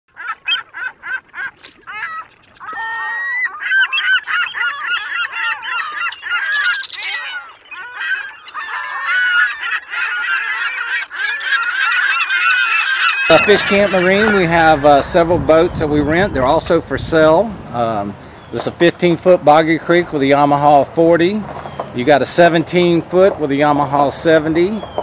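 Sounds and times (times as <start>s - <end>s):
flock of birds calling: 0.1s - 25.0s.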